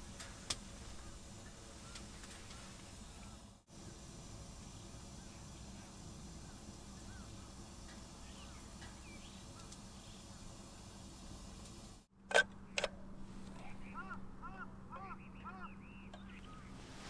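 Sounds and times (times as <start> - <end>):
distant bird chirps: 0.9 - 4.0, 4.6 - 11.1, 12.6 - 17.0.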